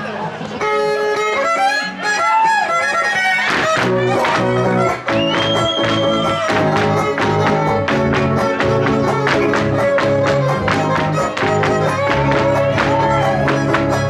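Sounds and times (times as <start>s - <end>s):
violin melody: 0.6s - 14.0s
strummed guitar chords: 0.7s - 14.0s.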